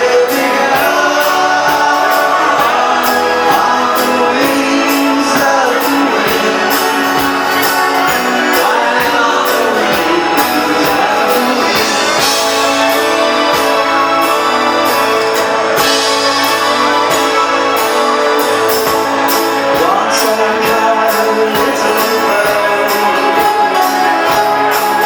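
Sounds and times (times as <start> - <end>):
drums steady beat: 0.0 - 25.0
lead singer singing: 0.0 - 25.0
live band playing: 0.0 - 25.0.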